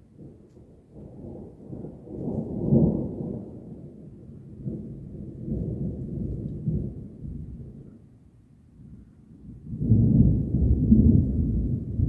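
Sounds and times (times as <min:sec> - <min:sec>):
rolling thunder rumbling: 0:00.1 - 0:08.1, 0:08.7 - 0:12.0.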